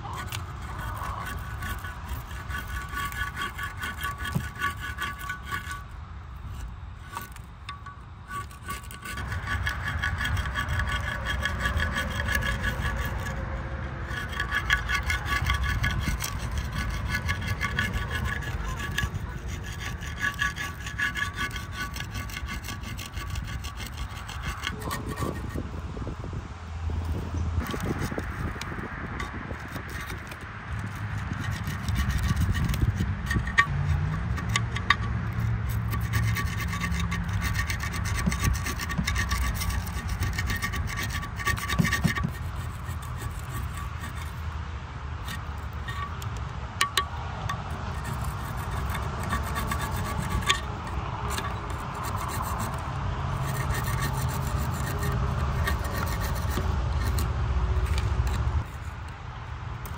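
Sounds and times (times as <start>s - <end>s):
abrasive scrubbing on metal: 0.0s - 26.1s, 27.0s - 59.9s.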